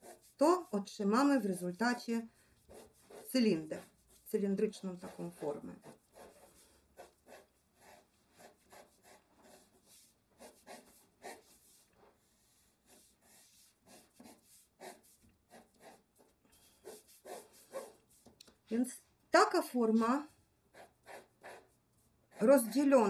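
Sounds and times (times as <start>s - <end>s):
pencil sketching on paper: 0.0s - 18.4s, 20.7s - 23.0s.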